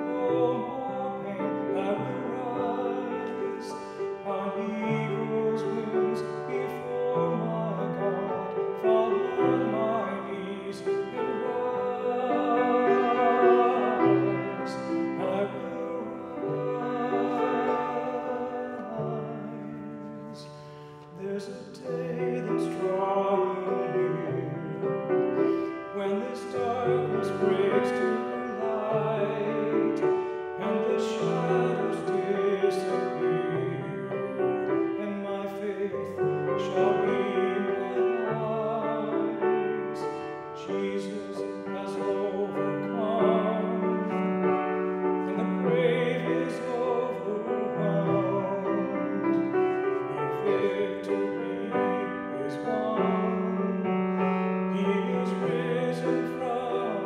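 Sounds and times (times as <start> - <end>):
grand piano accompaniment: 0.0 - 57.0
man singing: 0.0 - 57.0.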